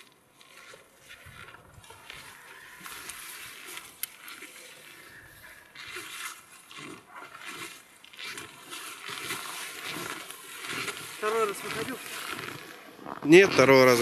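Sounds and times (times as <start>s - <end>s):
footsteps crunching through snow: 0.0s - 14.0s.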